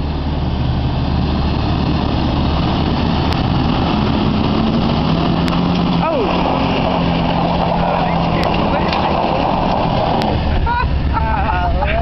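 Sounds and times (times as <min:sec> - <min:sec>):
jeep engines droning: 0:00.0 - 0:12.0.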